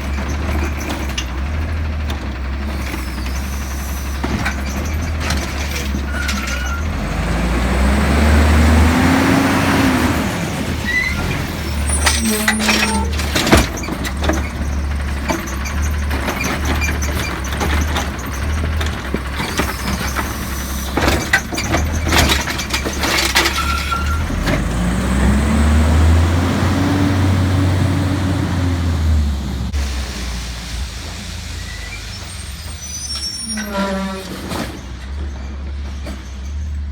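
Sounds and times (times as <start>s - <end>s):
garbage truck diesel engine: 0.0s - 36.9s.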